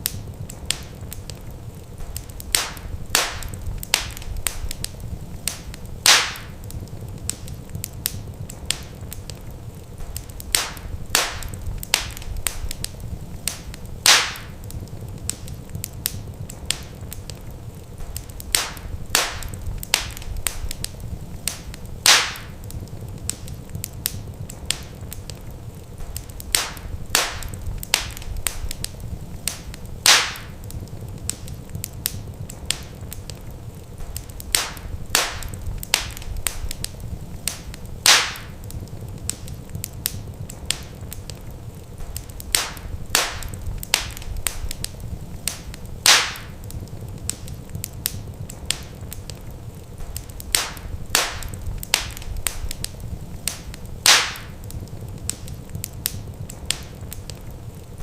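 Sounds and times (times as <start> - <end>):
fire pops: 0.0 - 58.0
low steady rumble: 0.0 - 58.0
wood fire crackling: 0.0 - 58.0.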